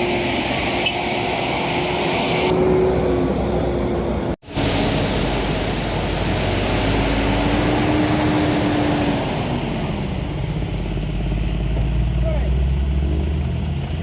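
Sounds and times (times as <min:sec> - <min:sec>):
heavy truck engine climbing: 0:00.0 - 0:14.0.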